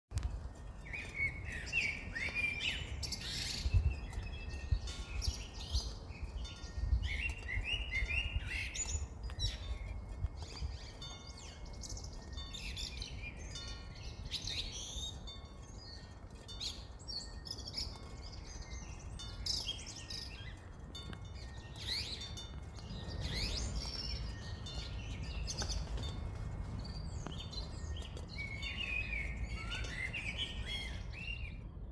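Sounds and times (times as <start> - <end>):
songbirds singing and chirping: 0.1 - 31.9.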